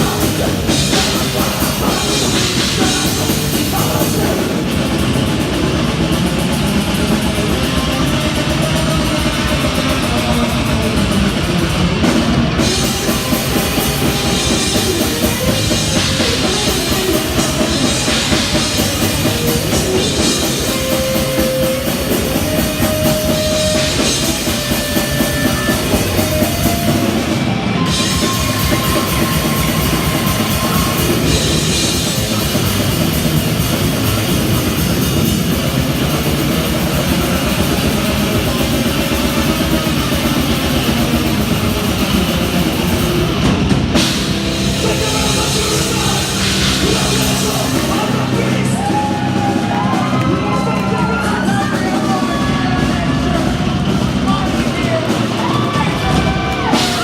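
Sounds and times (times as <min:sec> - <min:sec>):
death metal band playing live: 0:00.0 - 0:57.0
distorted electric guitars: 0:00.0 - 0:57.0
fast loud drumming: 0:00.0 - 0:57.0.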